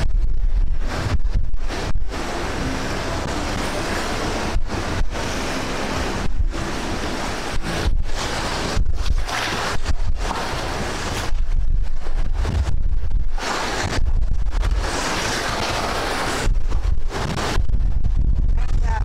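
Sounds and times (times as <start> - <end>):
wind buffeting microphone: 0.0 - 19.0
river rapids rushing: 0.8 - 17.6.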